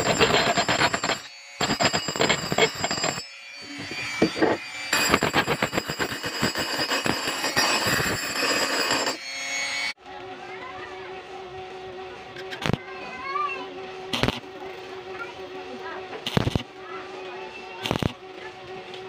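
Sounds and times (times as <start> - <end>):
rotary tool grinding metal: 0.0 - 10.0, 12.0 - 13.3, 13.9 - 19.0.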